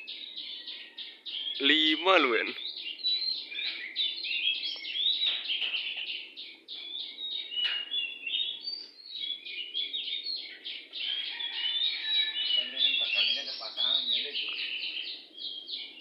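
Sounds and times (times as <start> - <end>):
bird singing rapid varied song: 0.0 - 16.0.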